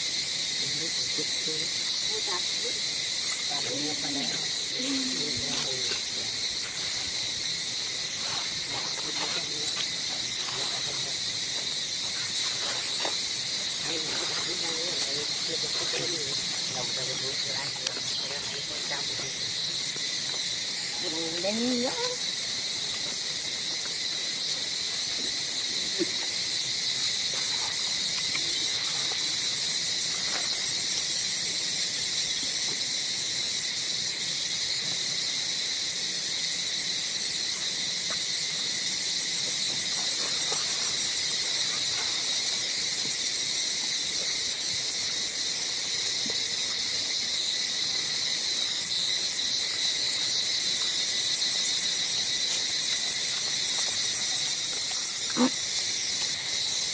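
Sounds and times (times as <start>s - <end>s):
insects droning in chorus: 0.0s - 56.9s.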